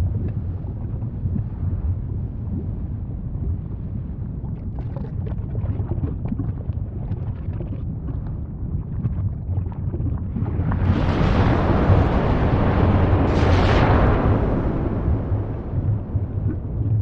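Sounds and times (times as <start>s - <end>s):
crackles and pops: 0.0s - 2.8s, 4.4s - 17.0s
deep steady rumble: 0.0s - 17.0s.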